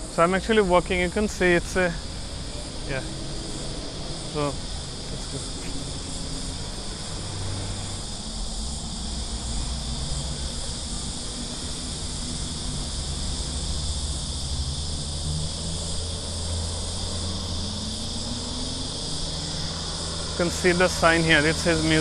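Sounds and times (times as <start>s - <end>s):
cicadas chorus: 0.0s - 22.0s.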